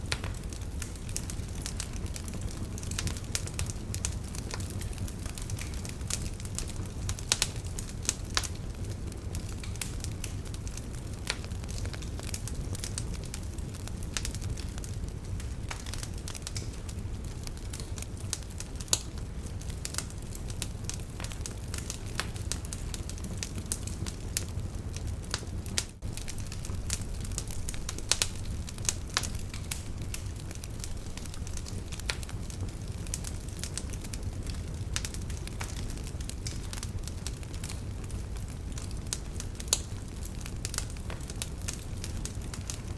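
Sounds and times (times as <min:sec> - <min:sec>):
log fire crackling: 0:00.0 - 0:42.9.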